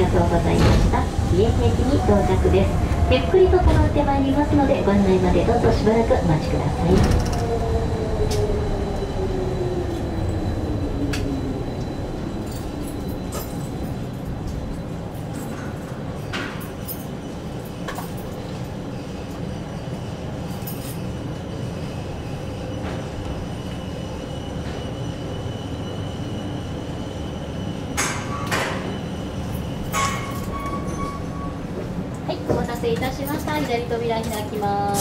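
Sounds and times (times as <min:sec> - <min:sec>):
cable car low rumble: 0:00.0 - 0:35.0.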